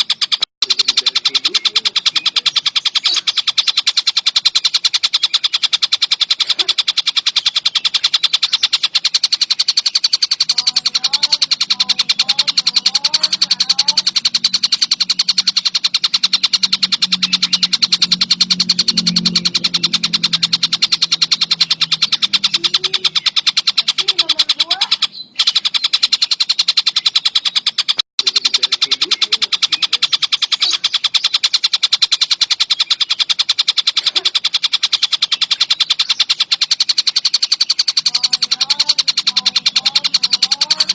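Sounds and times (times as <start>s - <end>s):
kingfisher rattling call: 0.0s - 40.9s.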